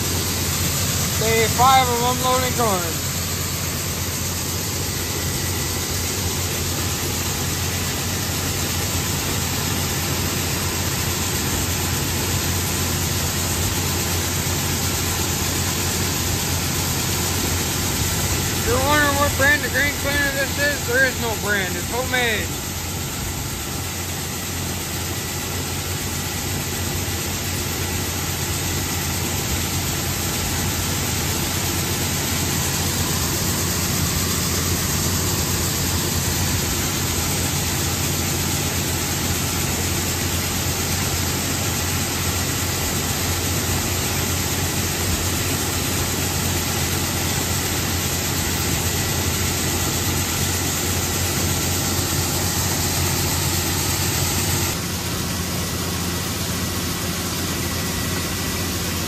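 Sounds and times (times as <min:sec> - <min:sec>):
corn pouring hiss: 0:00.0 - 0:59.0
grain cleaner machinery: 0:00.0 - 0:59.0
tractor engine running: 0:00.0 - 0:59.0.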